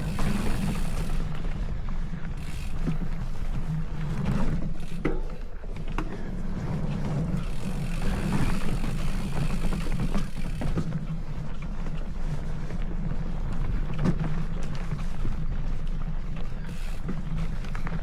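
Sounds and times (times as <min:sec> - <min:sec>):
bicycle ride rumble: 0:00.0 - 0:18.0.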